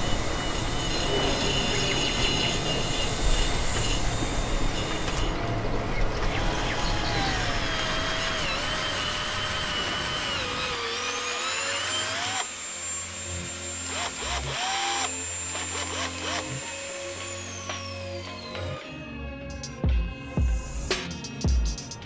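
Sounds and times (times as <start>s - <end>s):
power tool motor whining: 0.0s - 18.8s.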